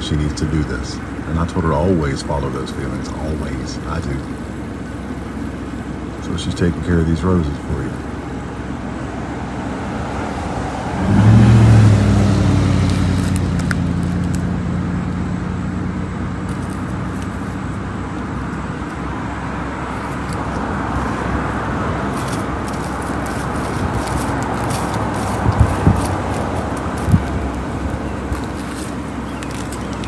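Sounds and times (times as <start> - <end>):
deep vehicle engine hum: 0.0 - 30.0
road traffic noise: 0.0 - 30.0.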